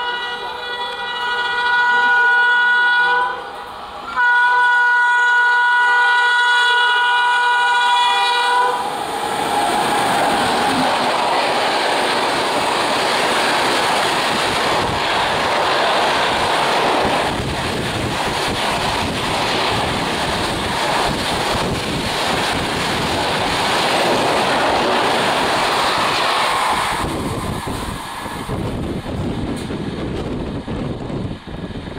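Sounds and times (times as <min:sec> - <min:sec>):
train roaring past: 0:00.0 - 0:31.9.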